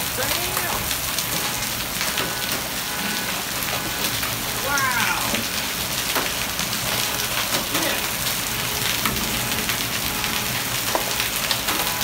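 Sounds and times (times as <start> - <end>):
hailstones striking concrete: 0.0 - 12.0
heavy rain on concrete: 0.0 - 12.0.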